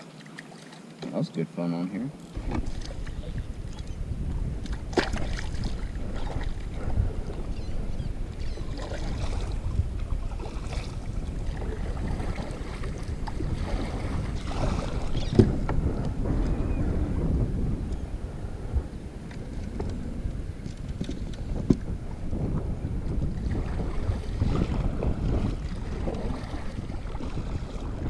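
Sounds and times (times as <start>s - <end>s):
wind rumbling on microphone: 2.2s - 28.0s.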